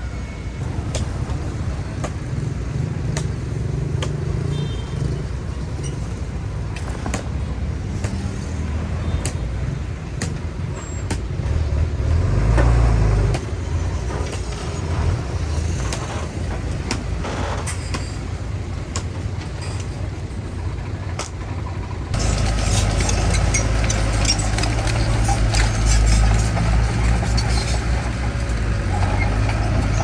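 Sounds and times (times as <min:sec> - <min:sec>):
diesel machinery rumble: 0:00.6 - 0:30.0.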